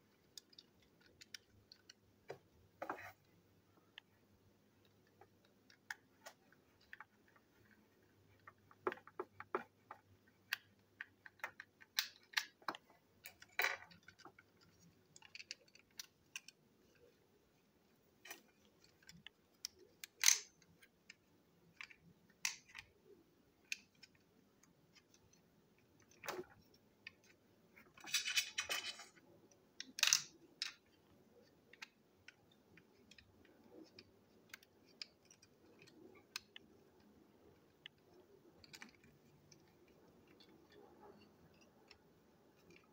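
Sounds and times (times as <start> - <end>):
plastic toy parts clicking: 0.1 - 2.4, 8.3 - 17.2, 18.2 - 42.9.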